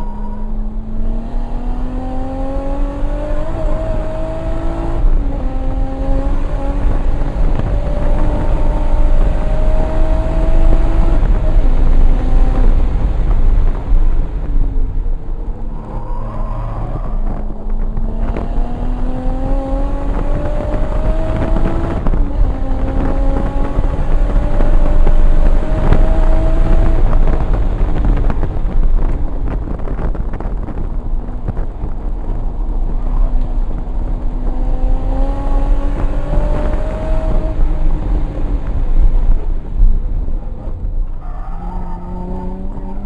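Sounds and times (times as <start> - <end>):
car engine accelerating: 0.0 - 43.0
low rumble of road and wind: 0.0 - 43.0.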